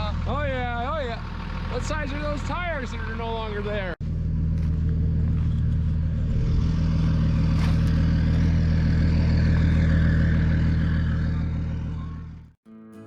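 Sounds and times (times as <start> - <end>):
vehicle engine running steadily: 0.0 - 12.6.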